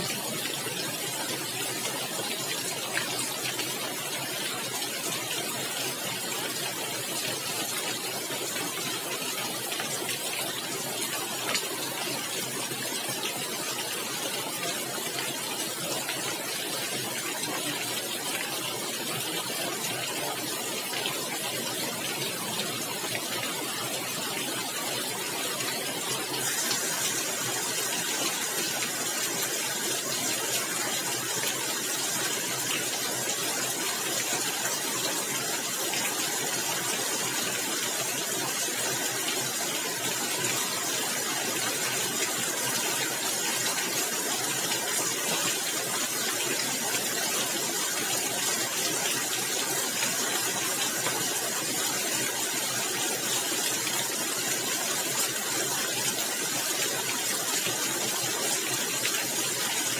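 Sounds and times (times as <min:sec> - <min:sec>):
heavy rain on a tiled roof: 0:00.0 - 0:59.9.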